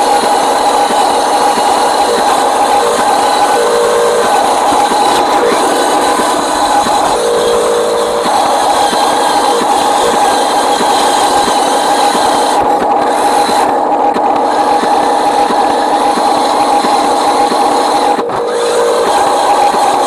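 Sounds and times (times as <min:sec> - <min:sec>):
model truck motor whine: 0:00.0 - 0:20.0.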